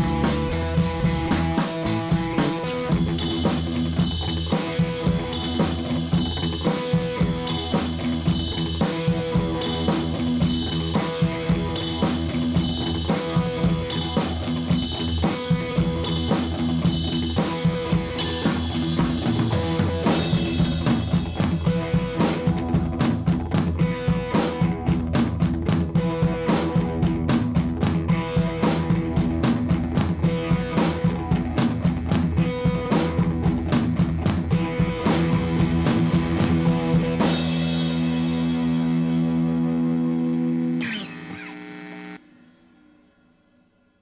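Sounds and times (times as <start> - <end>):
rock music: 0.0 - 42.9.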